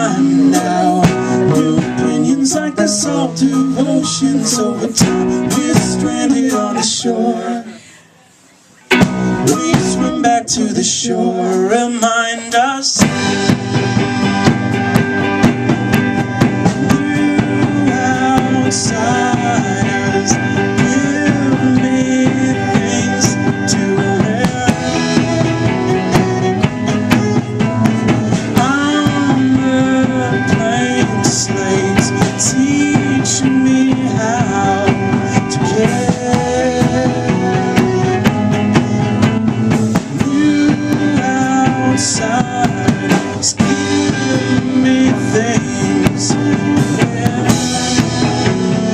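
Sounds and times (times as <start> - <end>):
drum kit: 0.0 - 7.0, 8.8 - 10.8, 12.5 - 48.9
guitar: 0.0 - 48.9
live band playing: 0.0 - 48.9.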